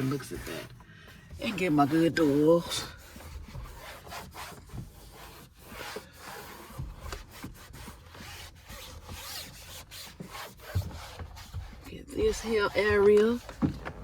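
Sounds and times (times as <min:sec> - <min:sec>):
wipe rubbing on door panel: 0:00.0 - 0:14.0.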